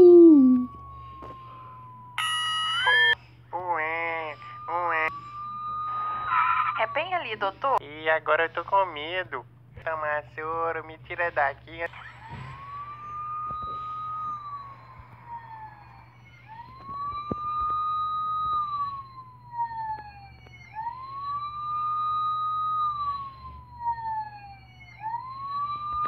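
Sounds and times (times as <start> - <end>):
ambulance siren wailing: 0.0 - 7.8, 11.8 - 26.0.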